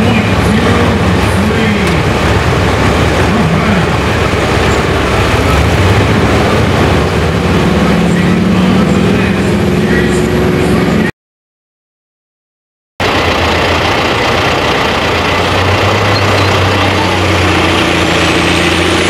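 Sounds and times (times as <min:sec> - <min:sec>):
diesel tractor engine running: 0:00.0 - 0:11.1, 0:13.0 - 0:19.0.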